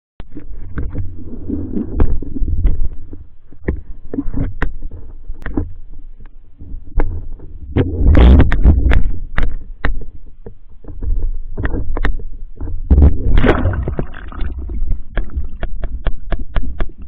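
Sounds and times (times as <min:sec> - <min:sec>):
underwater water rumble: 0:00.2 - 0:17.0.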